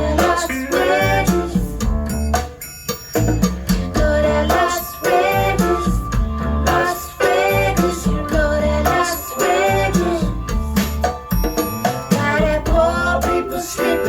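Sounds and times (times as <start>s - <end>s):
bass line: 0.0s - 2.6s, 3.2s - 14.0s
guitar pop music: 0.0s - 14.0s.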